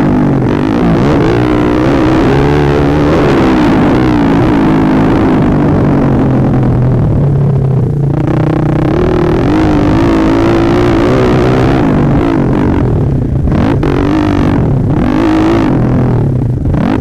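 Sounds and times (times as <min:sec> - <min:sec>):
pit bike engine revving: 0:00.0 - 0:06.8, 0:08.1 - 0:17.0.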